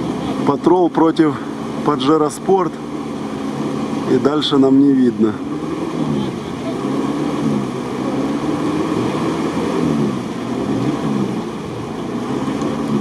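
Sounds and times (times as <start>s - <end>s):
off-road engine revving: 0.0s - 13.0s
vehicle driving through mud and water: 0.0s - 13.0s.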